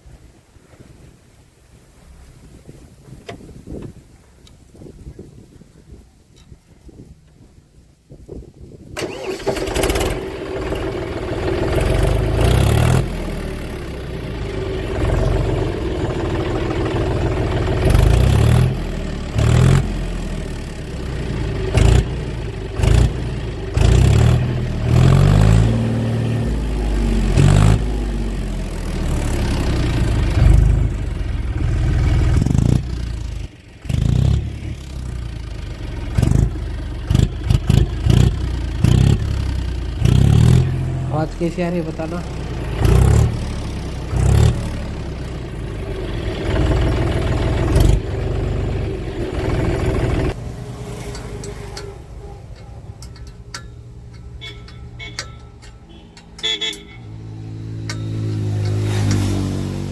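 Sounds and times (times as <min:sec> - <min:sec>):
open-piped tractor engine revving: 0:09.0 - 0:59.9.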